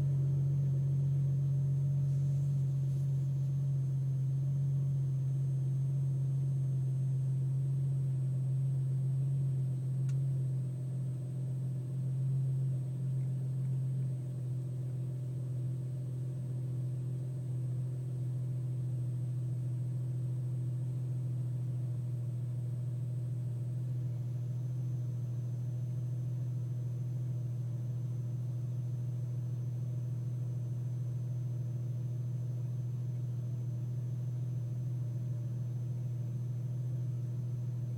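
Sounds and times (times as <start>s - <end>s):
low-pitched car hum: 0.0s - 37.9s.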